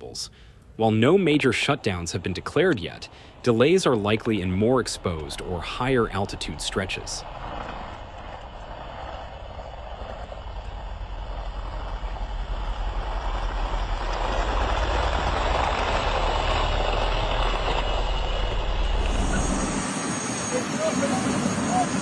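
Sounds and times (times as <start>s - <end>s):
vehicle rushing rumble: 1.0s - 20.0s.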